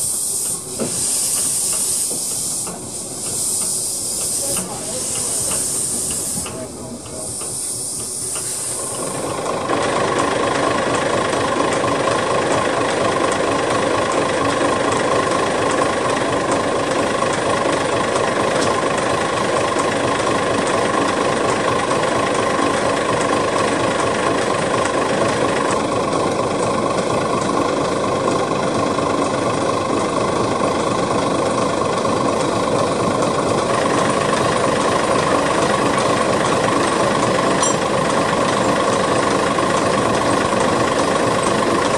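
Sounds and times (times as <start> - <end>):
diesel locomotive idling: 0.0 - 41.9
steam hissing: 0.0 - 41.9.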